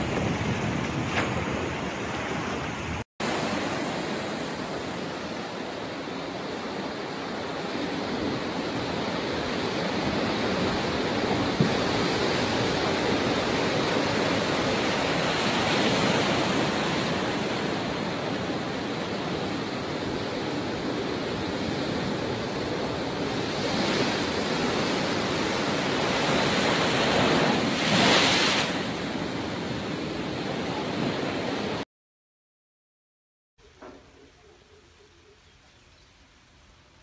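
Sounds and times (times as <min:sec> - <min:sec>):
storm waves breaking: 0:00.0 - 0:31.8.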